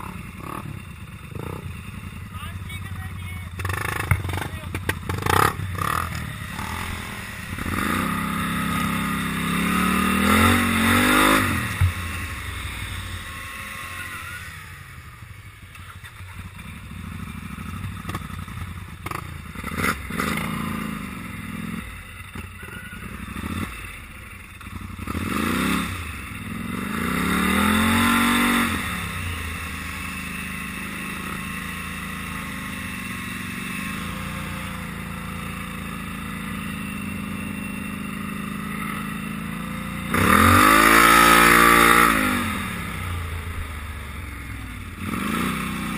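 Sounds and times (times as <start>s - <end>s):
atv engine revving and idling: 0.0s - 45.9s.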